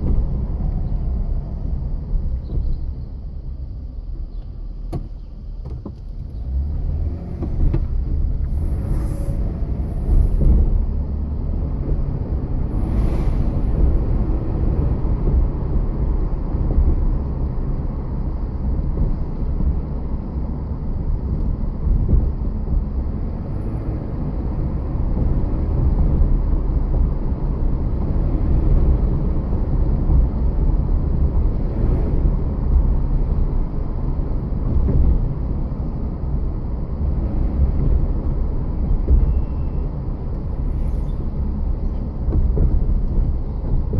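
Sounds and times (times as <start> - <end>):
vehicle low rumble: 0.0 - 43.9.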